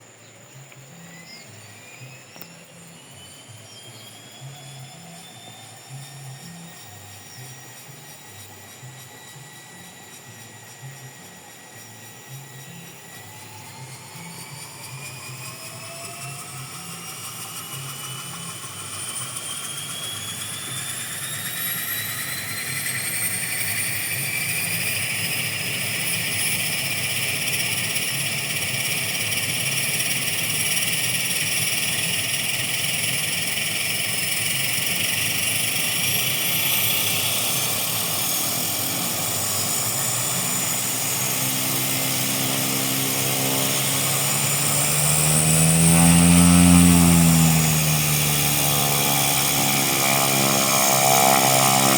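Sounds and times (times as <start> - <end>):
turboprop engine turbine whine: 0.0 - 51.9.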